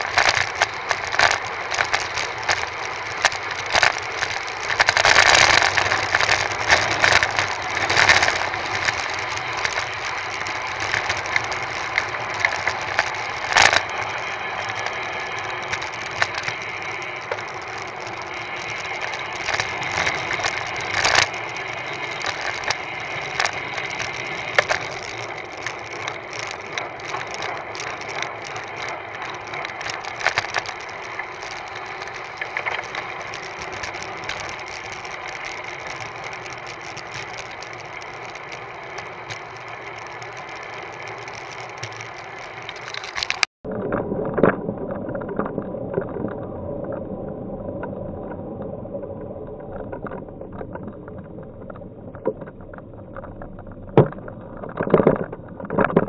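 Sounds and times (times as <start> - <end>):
tyre noise on asphalt: 0.0 - 47.0.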